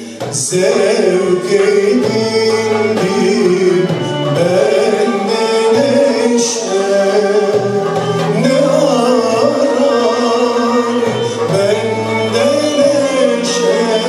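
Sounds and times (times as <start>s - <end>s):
cello: 0.0s - 14.0s
man singing: 0.0s - 14.0s
violin: 0.0s - 14.0s.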